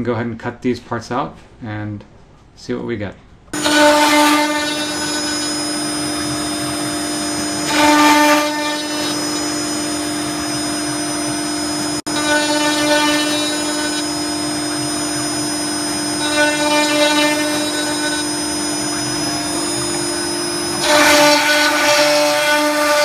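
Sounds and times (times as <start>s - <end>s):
router spindle whining cutting wood: 3.6s - 23.0s.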